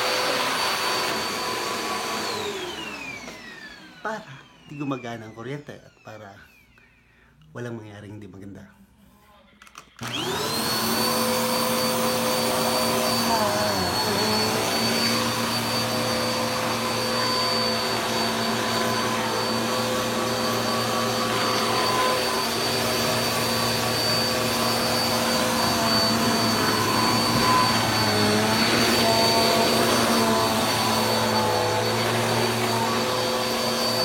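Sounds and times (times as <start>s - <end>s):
carpet cleaning machine running: 0.0s - 4.9s, 10.0s - 34.0s.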